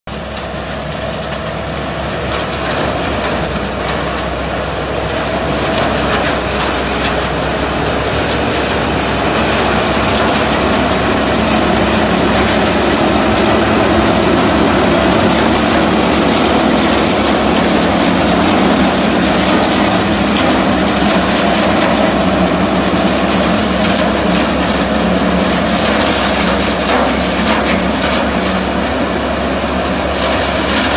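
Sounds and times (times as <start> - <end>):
combine harvester cutting cane: 0.1 - 30.9.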